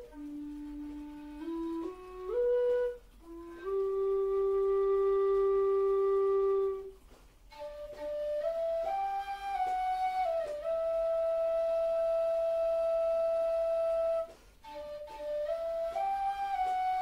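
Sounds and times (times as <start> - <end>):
low whistle melody: 0.0 - 17.0.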